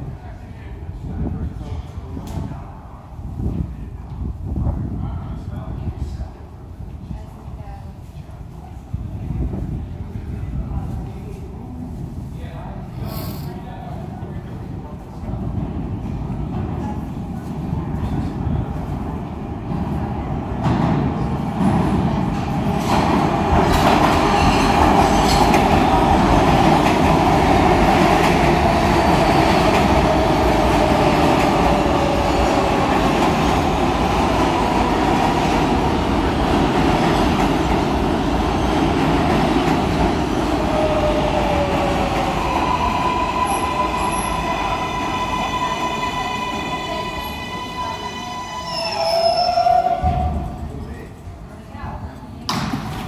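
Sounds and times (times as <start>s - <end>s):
subway train wheels rumbling: 0.0s - 53.0s.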